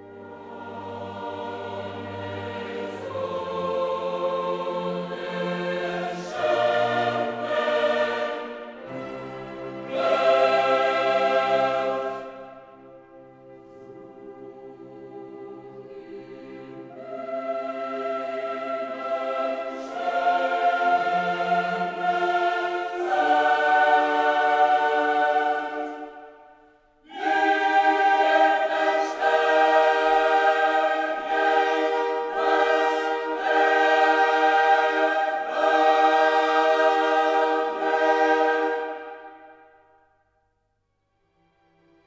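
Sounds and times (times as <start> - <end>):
choir singing sustained chords: 0.0 - 40.5.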